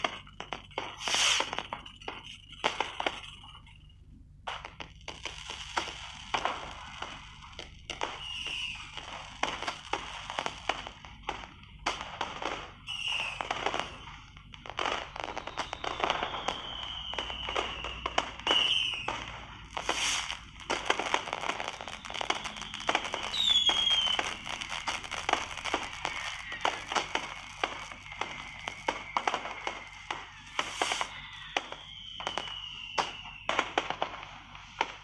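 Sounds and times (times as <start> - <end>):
fireworks cracking and popping: 0.0 - 35.0
fireworks whistles falling in pitch: 0.0 - 35.0.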